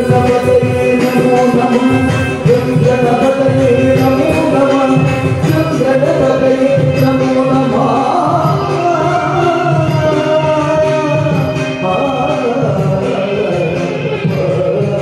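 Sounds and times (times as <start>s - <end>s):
instrumental accompaniment: 0.0s - 15.0s
person singing a melody: 0.0s - 15.0s.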